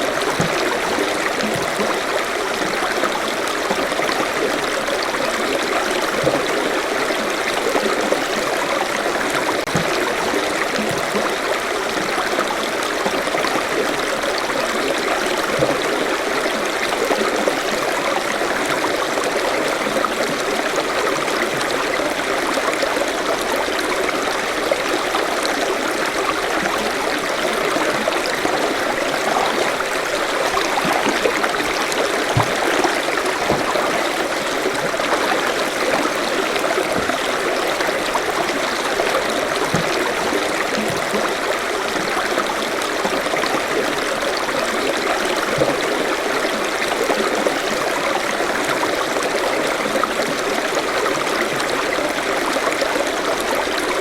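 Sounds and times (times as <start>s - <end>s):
stream water rushing: 0.0s - 54.0s
water gurgles and splashes: 0.0s - 54.0s.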